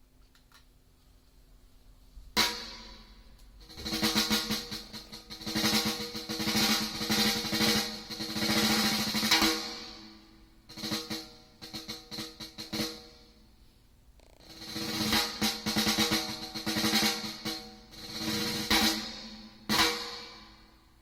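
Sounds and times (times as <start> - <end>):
drum hits: 2.4 - 13.3, 14.2 - 20.6
snare drum rolls: 2.4 - 13.3, 14.2 - 20.7.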